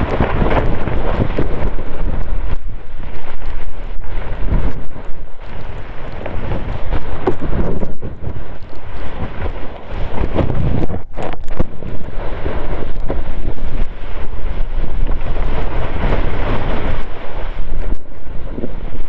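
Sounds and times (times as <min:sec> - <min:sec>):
snowboard scraping over snow: 0:00.0 - 0:19.0
wind buffeting microphone: 0:00.0 - 0:19.0.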